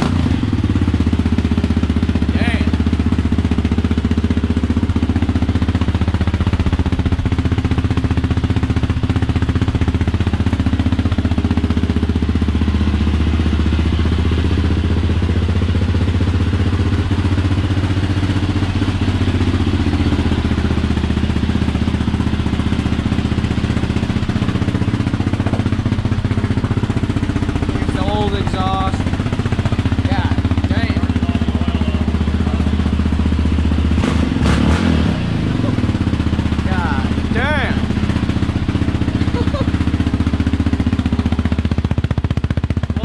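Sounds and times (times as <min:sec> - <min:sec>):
quad bike engine idling: 0:00.0 - 0:43.0.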